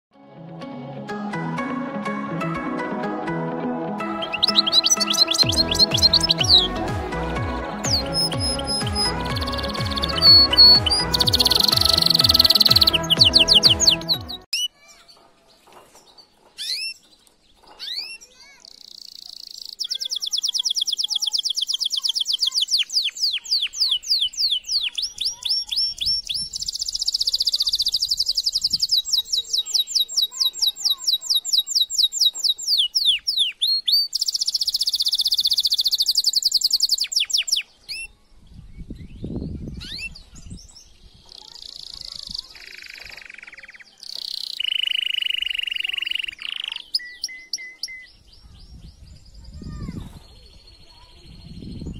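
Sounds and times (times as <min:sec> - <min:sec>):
canary singing trills: 0:04.1 - 0:06.8, 0:07.8 - 0:15.2, 0:16.0 - 0:51.9.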